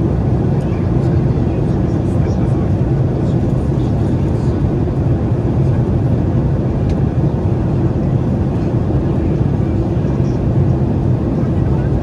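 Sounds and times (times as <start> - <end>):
airliner engines droning: 0.0 - 12.0.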